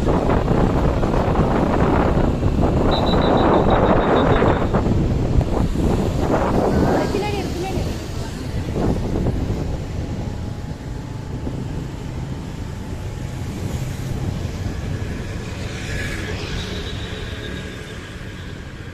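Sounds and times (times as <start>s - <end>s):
wind buffeting microphone: 0.0s - 16.5s
low road rumble: 0.0s - 18.9s.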